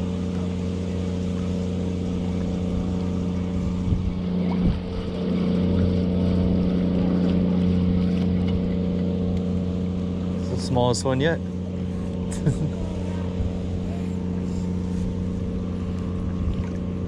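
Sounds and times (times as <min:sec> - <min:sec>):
motorboat engine running: 0:00.0 - 0:17.0.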